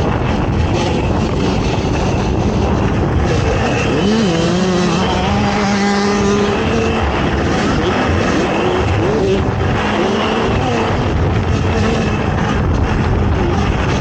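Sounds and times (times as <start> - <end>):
atv engine running hard: 0.0 - 14.0
wind and track rushing: 0.0 - 14.0.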